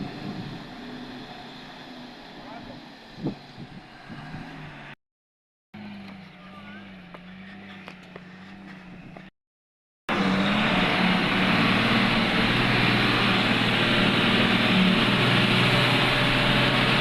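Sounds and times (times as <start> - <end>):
heavy diesel engine running: 0.0 - 5.0, 5.8 - 9.3, 10.1 - 17.0.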